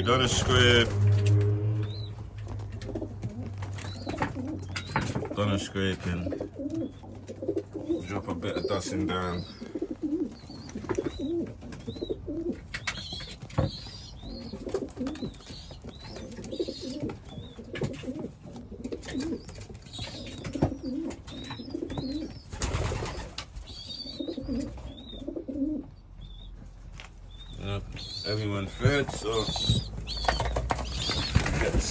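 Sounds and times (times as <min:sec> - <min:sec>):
pigeons cooing: 0:00.0 - 0:26.6, 0:27.3 - 0:31.9.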